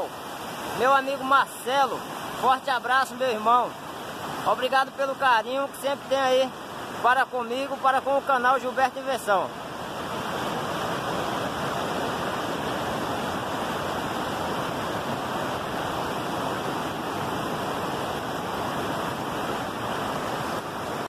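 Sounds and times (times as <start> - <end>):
river rushing over rapids: 0.0 - 21.0
waterfall cascading: 0.0 - 21.0.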